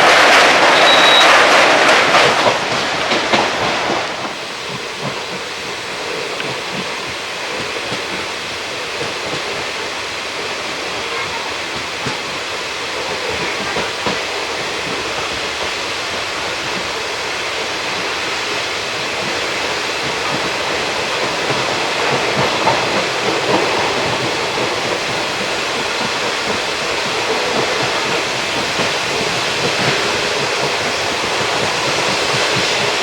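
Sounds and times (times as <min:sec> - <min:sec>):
train wheels on rails: 0:00.0 - 0:33.0.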